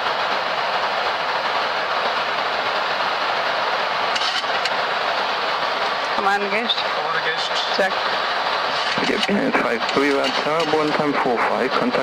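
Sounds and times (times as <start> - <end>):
cockpit air rushing and engines: 0.0 - 12.0.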